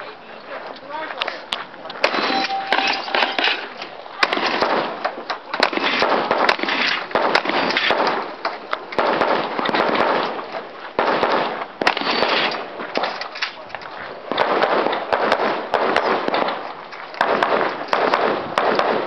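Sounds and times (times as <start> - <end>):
gunshots: 2.0 - 13.2, 14.3 - 19.0.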